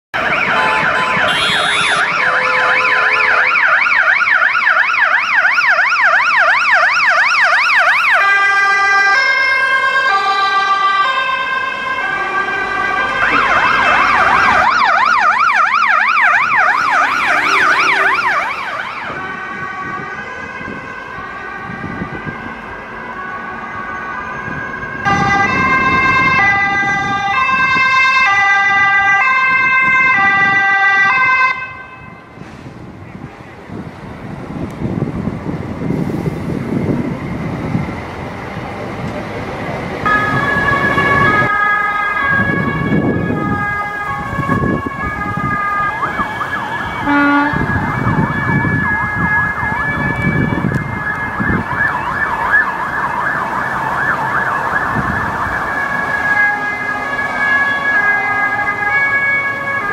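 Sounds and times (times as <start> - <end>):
emergency sirens passing: 0.1 - 59.9.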